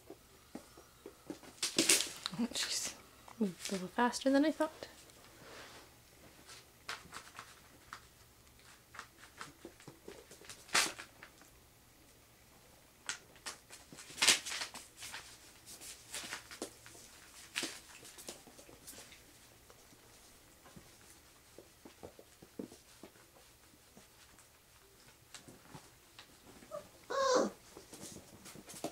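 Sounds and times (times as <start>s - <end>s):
puppies scratching and rustling: 0.5s - 11.5s, 13.1s - 28.9s.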